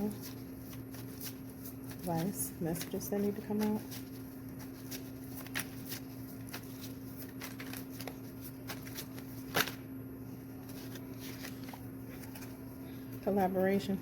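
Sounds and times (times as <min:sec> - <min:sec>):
cards being shuffled: 0:00.0 - 0:09.8, 0:10.6 - 0:12.7
steady low hum: 0:00.0 - 0:14.0.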